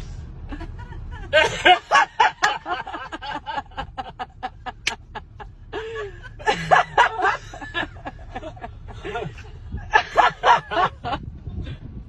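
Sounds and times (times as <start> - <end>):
people laughing: 0.5 - 11.2.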